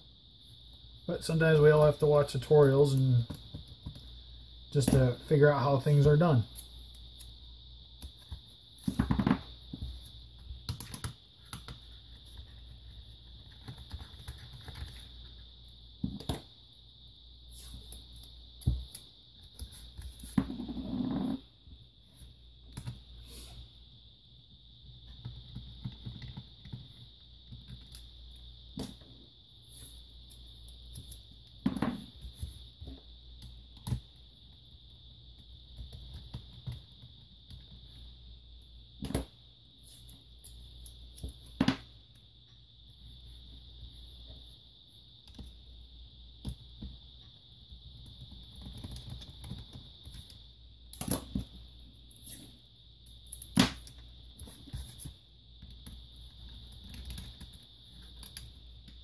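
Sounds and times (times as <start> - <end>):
faint high-pitched whine: 0.0 - 59.0.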